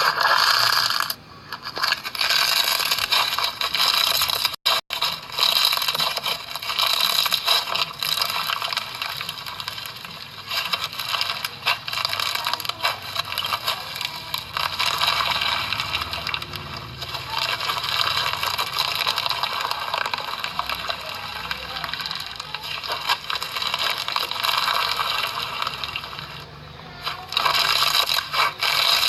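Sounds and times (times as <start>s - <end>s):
slime crackling and popping: 0.0s - 29.0s.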